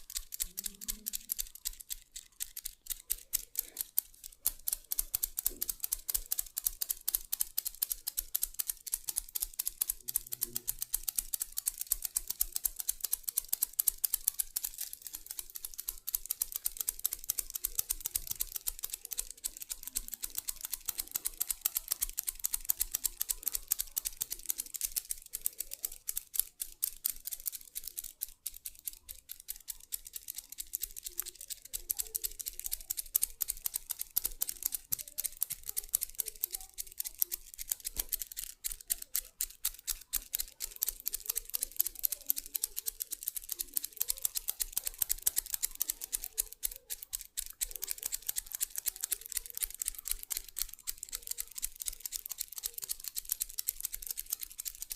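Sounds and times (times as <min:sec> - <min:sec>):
rapid clicking and crackling: 0:00.0 - 0:54.9.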